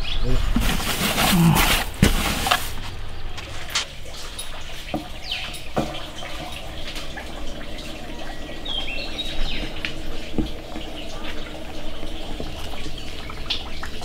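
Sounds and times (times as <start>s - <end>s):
birds chirping: 0.0s - 0.6s, 2.9s - 14.0s.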